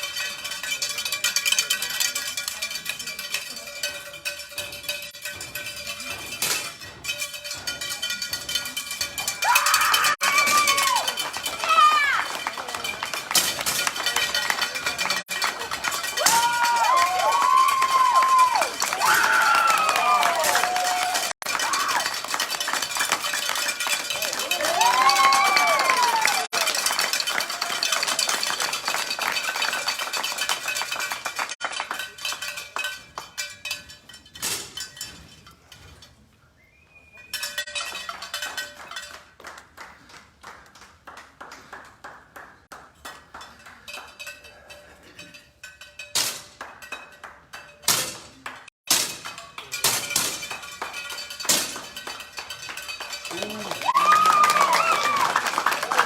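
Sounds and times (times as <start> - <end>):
light clinking clatter: 0.0 - 19.0, 21.2 - 25.6, 26.4 - 40.2, 42.6 - 53.9.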